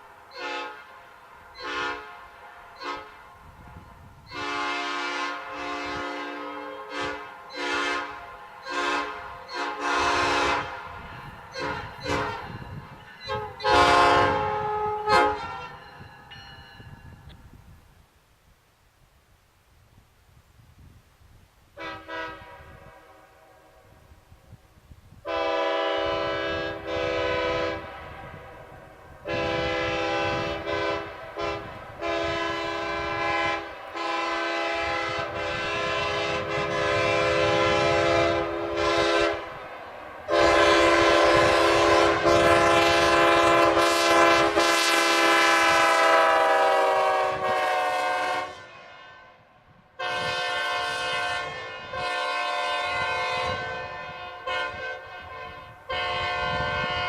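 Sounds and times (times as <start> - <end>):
locomotive air horn blasts: 0.3 - 16.3, 21.8 - 24.2, 25.2 - 57.0.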